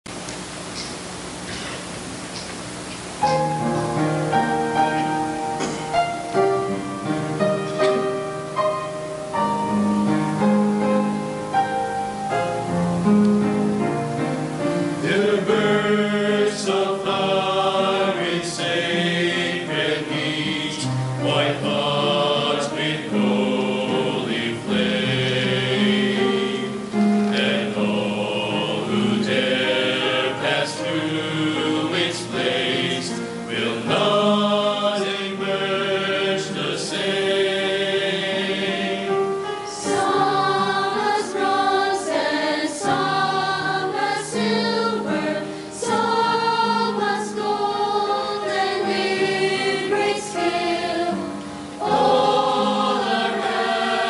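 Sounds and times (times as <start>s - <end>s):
piano accompaniment: 3.1s - 54.0s
choir singing a hymn: 3.2s - 54.0s.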